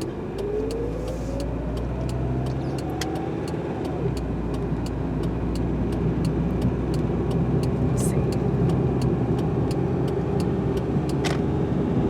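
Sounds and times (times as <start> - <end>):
engine and road hum: 0.0 - 12.0.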